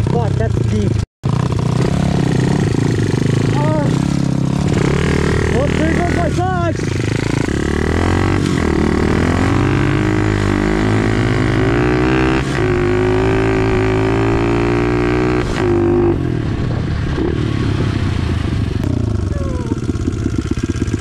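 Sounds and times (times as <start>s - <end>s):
pit bike engine revving: 0.0s - 21.0s.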